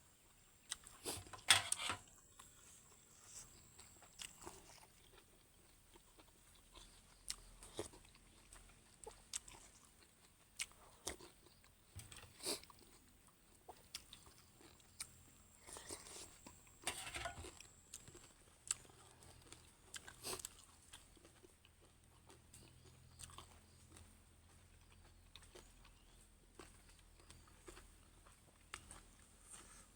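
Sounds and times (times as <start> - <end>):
person chewing food: 0.2 - 29.9.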